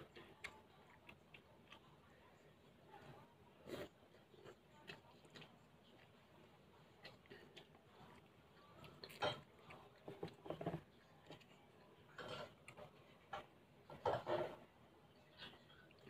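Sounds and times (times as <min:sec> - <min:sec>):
noodles being chewed: 0:00.0 - 0:14.2.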